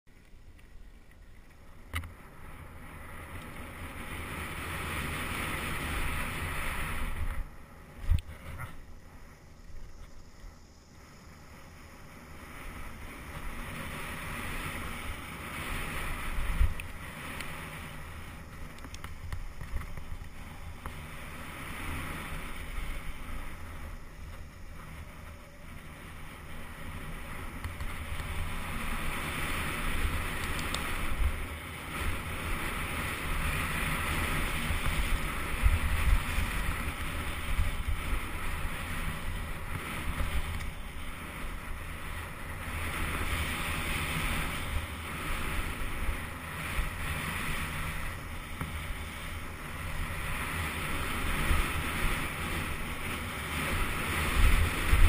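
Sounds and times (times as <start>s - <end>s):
bike tyres rumbling: 0.1s - 55.0s
wind rushing over microphone: 1.6s - 55.0s.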